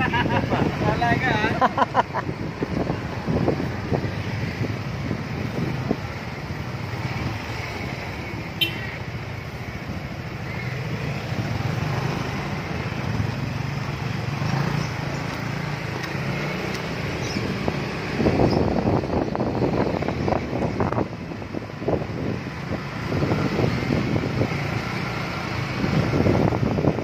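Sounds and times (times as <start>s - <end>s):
wind noise on microphone: 0.0s - 8.5s, 12.8s - 27.0s.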